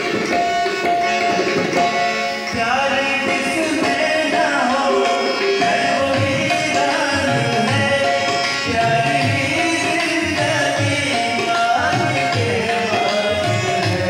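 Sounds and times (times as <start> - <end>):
hand-drum strokes: 0.0 - 14.0
man singing into a microphone: 2.5 - 14.0.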